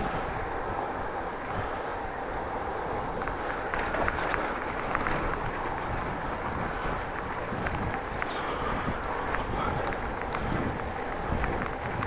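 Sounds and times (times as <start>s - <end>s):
road noise: 0.0s - 12.0s
wind rumble on microphone: 0.0s - 12.0s.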